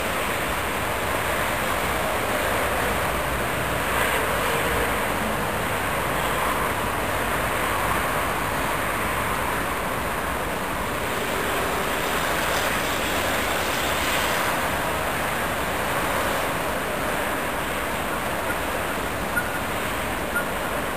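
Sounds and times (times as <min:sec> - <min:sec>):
freight train running on rails: 0:00.0 - 0:20.9.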